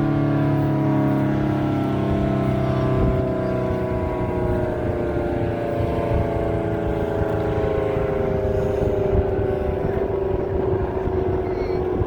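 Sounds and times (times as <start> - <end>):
warning siren falling tone: 0.0 - 12.0.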